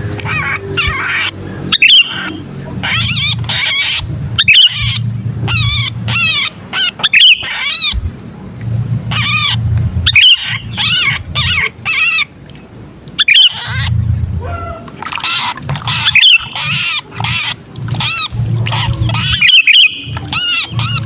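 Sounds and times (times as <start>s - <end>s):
bird distress squawking: 0.0s - 8.1s, 9.1s - 12.3s, 13.2s - 21.0s
low rough hum: 0.0s - 21.0s.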